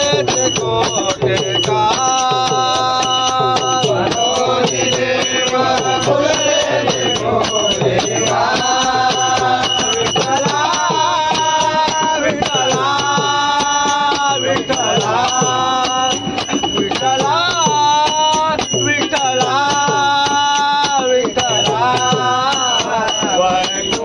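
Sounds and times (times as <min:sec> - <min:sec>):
men singing devotional song: 0:00.0 - 0:24.0.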